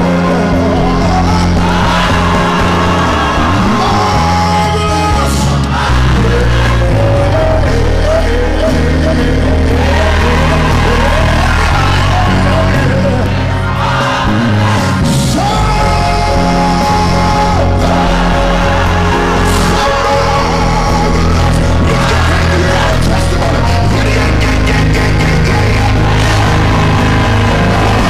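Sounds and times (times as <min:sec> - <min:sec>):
choir and soloist singing: 0:00.0 - 0:28.0
congregation shouting: 0:00.0 - 0:28.0
gospel band with heavy bass: 0:00.0 - 0:28.0.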